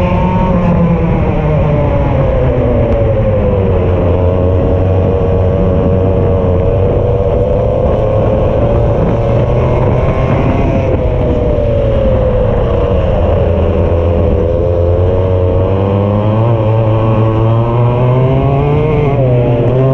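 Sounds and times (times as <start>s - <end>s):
kart engine revving: 0.0s - 19.9s.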